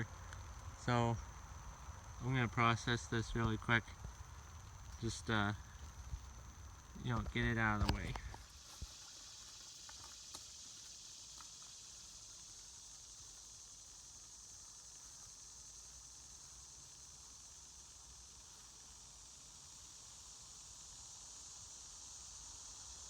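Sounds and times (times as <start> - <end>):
faint ticks: 0.0 - 19.8
steady high hiss: 0.0 - 23.0.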